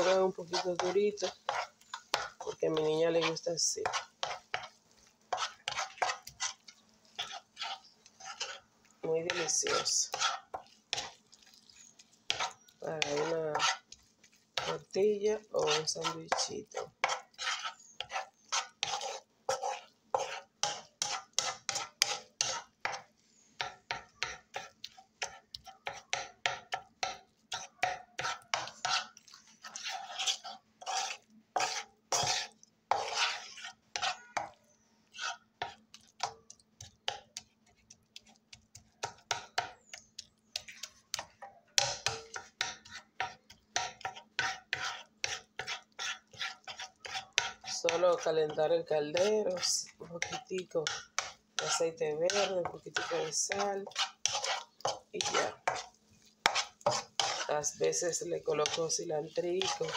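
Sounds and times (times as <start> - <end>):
wooden spoon scraping a pan: 0.0 - 59.9.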